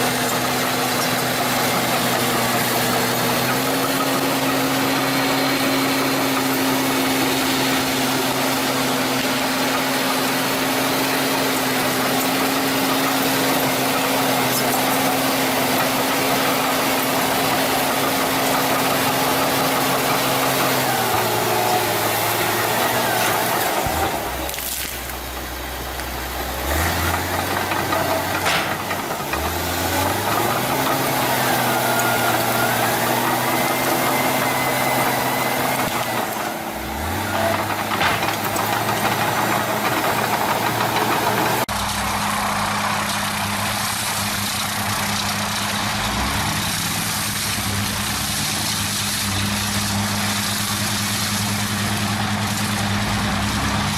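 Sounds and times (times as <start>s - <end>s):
heavy machine engine revving: 0.0s - 53.9s.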